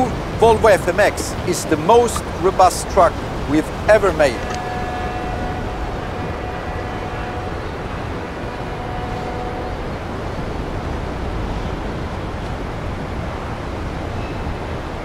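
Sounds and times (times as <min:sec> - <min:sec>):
rushing harbour noise: 0:00.0 - 0:15.0.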